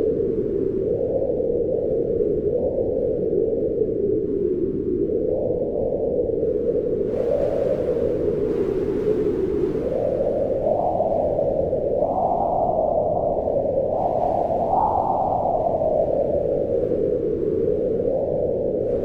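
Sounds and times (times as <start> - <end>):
wind howling in gusts: 0.0 - 19.0.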